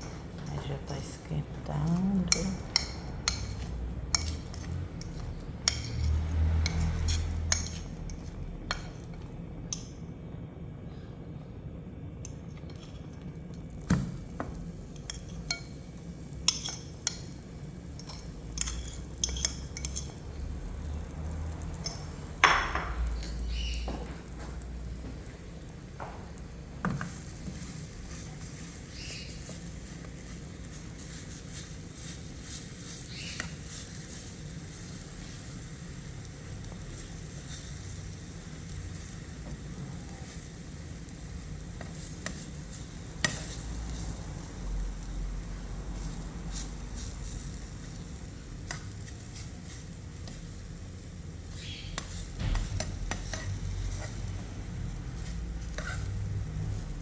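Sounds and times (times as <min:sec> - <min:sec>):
bread sizzling in frying pan: 0:02.4 - 0:09.8, 0:12.7 - 0:57.0.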